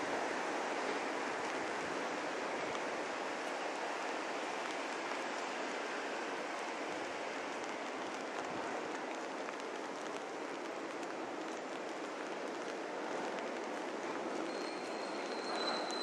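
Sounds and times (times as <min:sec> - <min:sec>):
rain falling steadily: 0:00.0 - 0:16.0
raindrops ticking: 0:00.1 - 0:16.0.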